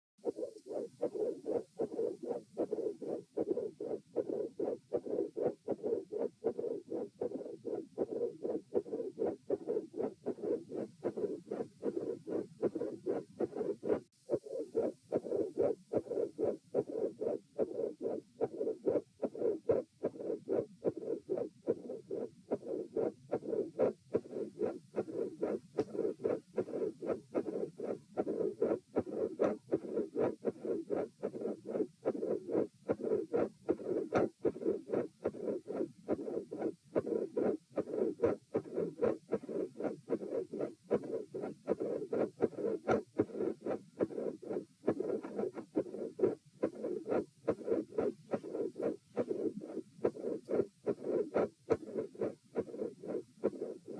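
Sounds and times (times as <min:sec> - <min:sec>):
heartbeat with rushing murmur: 0:00.2 - 0:53.9.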